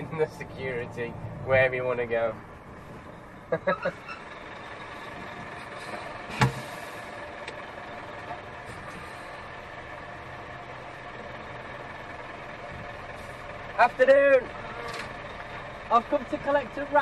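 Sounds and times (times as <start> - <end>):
diesel engine running at low revs: 0.0 - 17.0.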